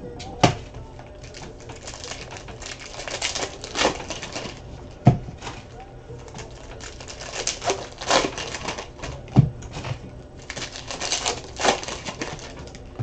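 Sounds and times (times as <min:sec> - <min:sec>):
wrapper crinkling: 0:01.0 - 0:13.0.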